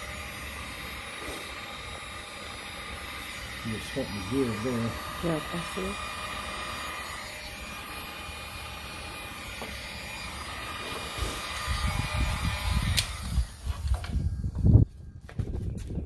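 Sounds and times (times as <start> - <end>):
heat gun hissing: 0.0 - 14.3.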